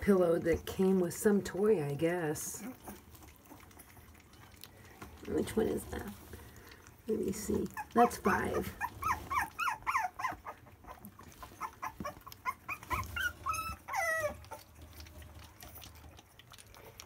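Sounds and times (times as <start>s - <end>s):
puppies whimpering and squealing: 1.6s - 16.6s.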